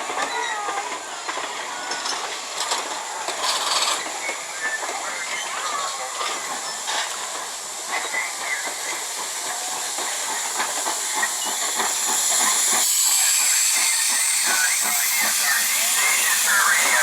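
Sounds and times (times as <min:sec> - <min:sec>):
locomotive wheels clanking: 0:00.0 - 0:17.0
steam hissing: 0:00.0 - 0:17.0.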